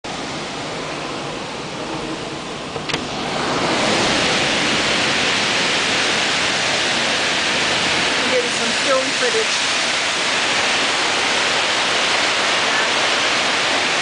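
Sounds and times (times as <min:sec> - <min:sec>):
heavy rain: 0:00.1 - 0:14.0
strong gusting wind: 0:00.1 - 0:14.0.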